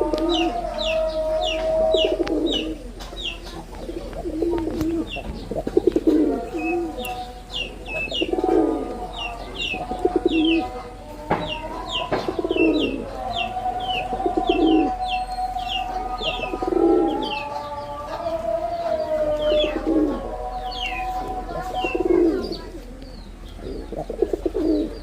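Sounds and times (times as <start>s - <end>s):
pigeons cooing: 0.0s - 25.0s
small birds chirping: 0.0s - 25.0s.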